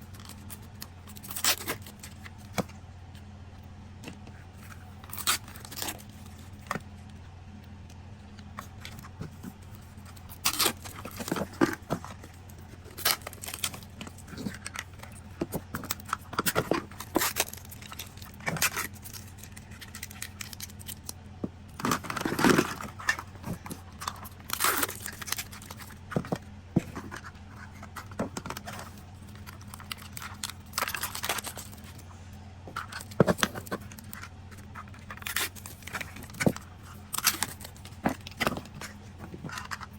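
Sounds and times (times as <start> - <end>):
faint low hum: 0.0 - 39.9
plastic packaging tearing and crinkling: 0.1 - 2.6, 4.6 - 6.8, 8.5 - 32.1, 32.7 - 39.9.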